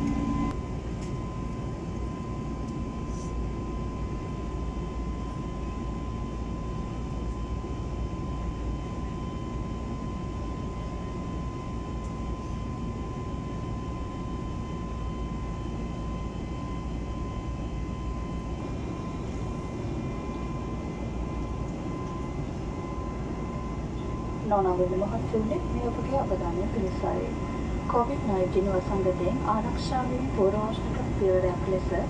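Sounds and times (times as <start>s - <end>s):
jet engines and airflow rushing: 0.0s - 32.0s
thin steady whine: 0.0s - 32.0s.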